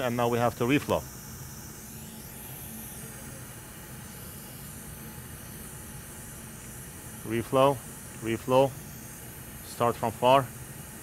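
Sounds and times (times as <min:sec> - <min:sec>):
hot air station hissing: 0:00.0 - 0:11.0.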